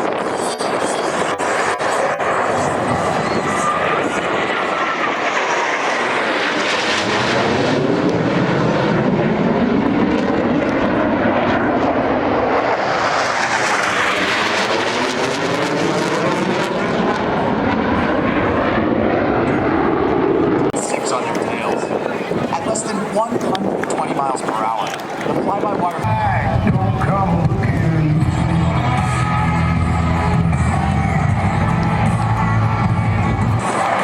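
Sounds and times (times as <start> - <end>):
jet engines roaring past: 0.0 - 34.0.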